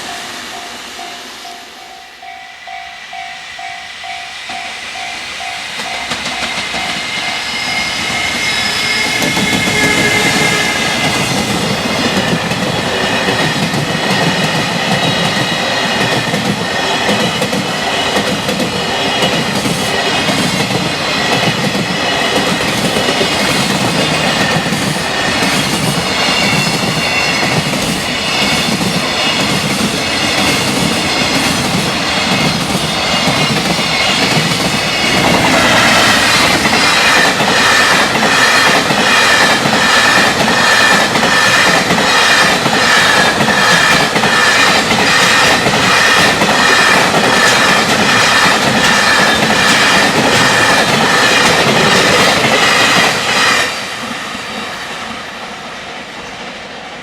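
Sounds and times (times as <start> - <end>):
crossing warning bell ringing: 0.0 - 52.9
freight train wheels clattering: 3.2 - 55.0.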